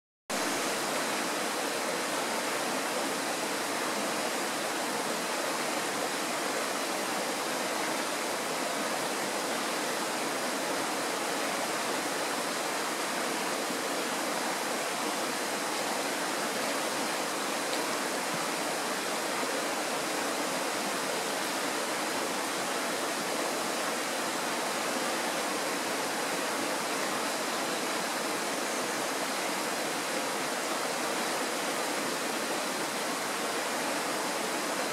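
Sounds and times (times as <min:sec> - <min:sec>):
mountain stream rushing: 0:00.3 - 0:34.9.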